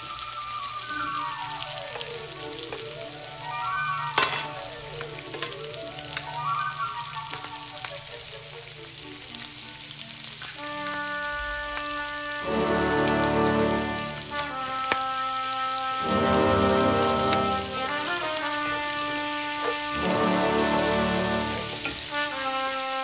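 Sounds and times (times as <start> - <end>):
light background music: 0.0 - 23.0
peppers sizzling in butter: 0.0 - 23.0.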